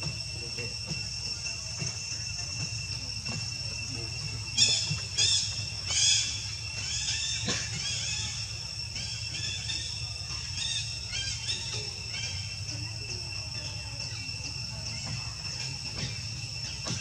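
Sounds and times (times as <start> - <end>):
high insect drone: 0.0 - 17.0
low hum: 0.0 - 17.0.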